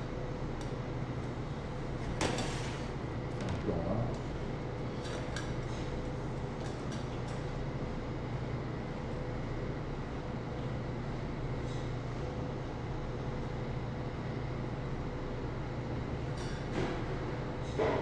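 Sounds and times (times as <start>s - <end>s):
kitchen machinery hum: 0.0s - 18.0s.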